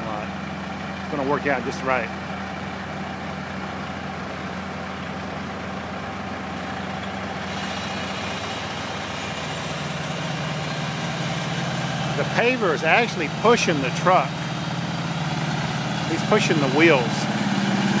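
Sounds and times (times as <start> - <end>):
heavy diesel engines droning: 0.0 - 18.0
higher bright engine layer: 0.0 - 18.0.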